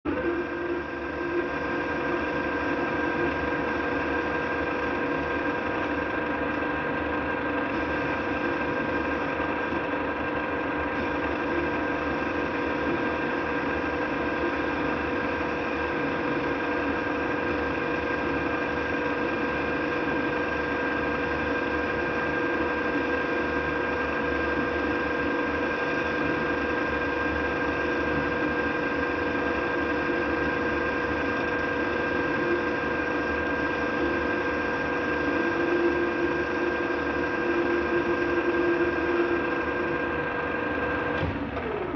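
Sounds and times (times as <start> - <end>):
metal lathe whining: 0.1 - 41.9.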